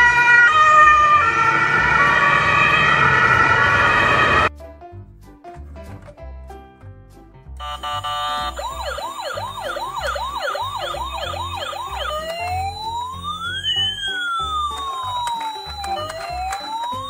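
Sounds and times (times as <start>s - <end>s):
toy ambulance siren: 0.0s - 4.5s, 7.6s - 17.0s.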